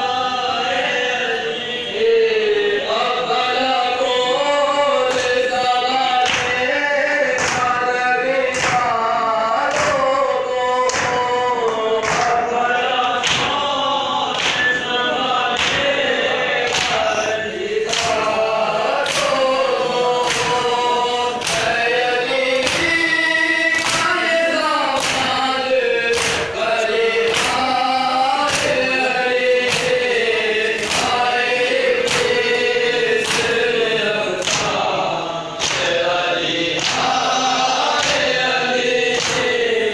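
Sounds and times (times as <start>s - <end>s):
man singing a lament into microphone: 0.0s - 39.9s
men singing and chanting: 0.0s - 39.9s.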